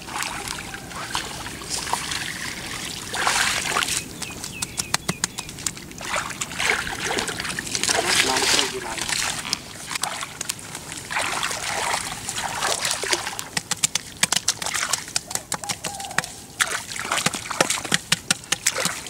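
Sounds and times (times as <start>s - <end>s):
hands splashing in muddy water: 0.0s - 19.0s
sharp slaps and splats: 3.0s - 19.0s.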